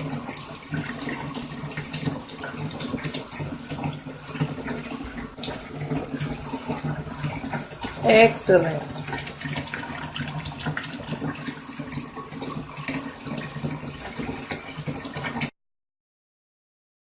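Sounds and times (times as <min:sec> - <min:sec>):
washing machine motor hum: 0:00.0 - 0:15.5
water sloshing in machine: 0:00.0 - 0:15.5.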